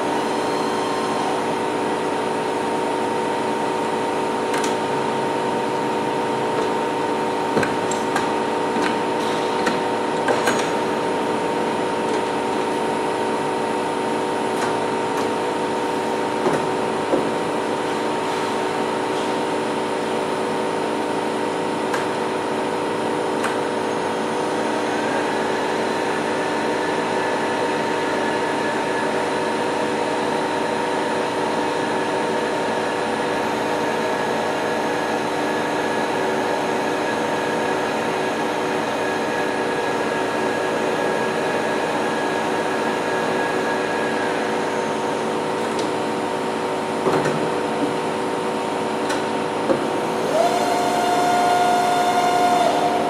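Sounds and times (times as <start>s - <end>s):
high machine whine: 0.0s - 53.0s
milling machine humming: 0.0s - 53.0s.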